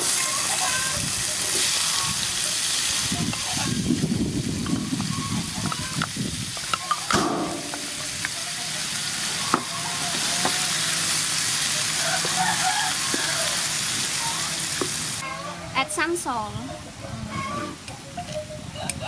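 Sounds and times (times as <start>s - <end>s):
vegetables sizzling in oil: 0.0s - 15.3s.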